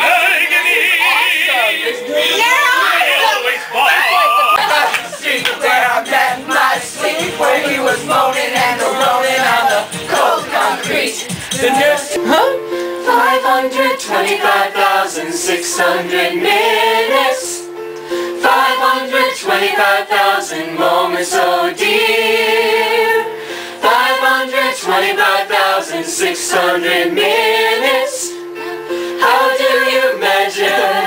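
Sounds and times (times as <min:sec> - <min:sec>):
group singing in harmony: 0:04.5 - 0:31.0.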